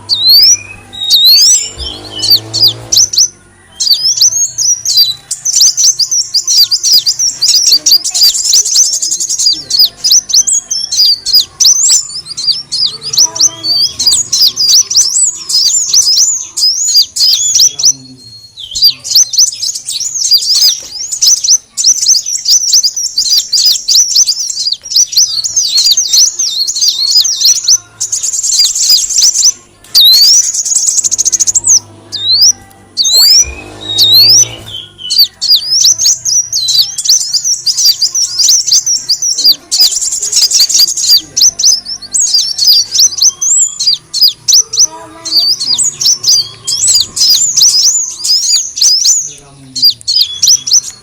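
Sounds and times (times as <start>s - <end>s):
bird chirping and twittering: 0.0s - 51.0s
buzzy bird trills: 0.0s - 51.0s.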